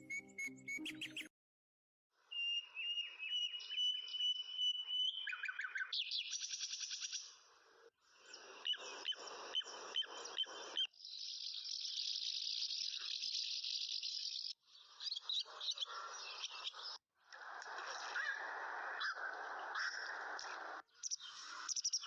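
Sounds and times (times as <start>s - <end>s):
birds chirping and trilling: 0.0s - 1.3s, 2.4s - 7.4s, 8.2s - 17.0s, 18.0s - 22.0s.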